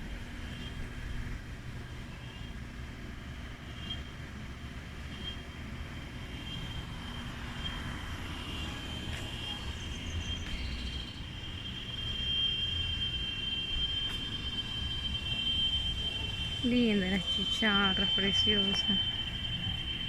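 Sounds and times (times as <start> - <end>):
cicadas droning: 0.0 - 20.0.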